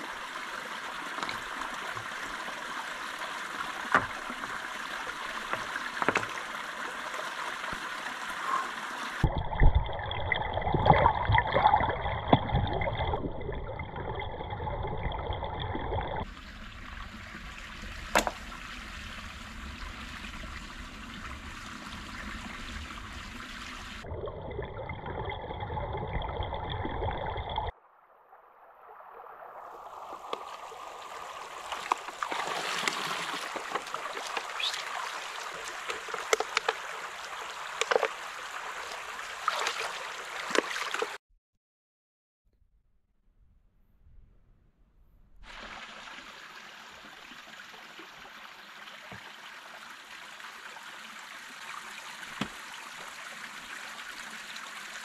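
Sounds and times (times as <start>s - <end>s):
stream trickling over rocks: 0.0s - 27.7s, 29.4s - 41.2s, 45.5s - 55.0s.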